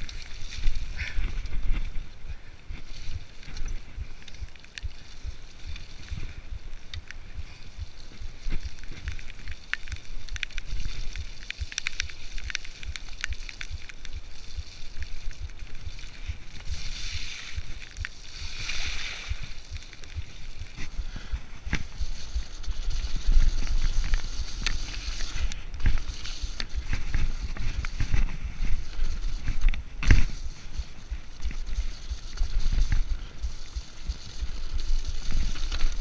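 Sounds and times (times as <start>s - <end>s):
bike chain and frame rattling: 0.0s - 36.0s
bike tyres on dirt: 0.0s - 36.0s
wind rumbling on microphone: 0.0s - 36.0s.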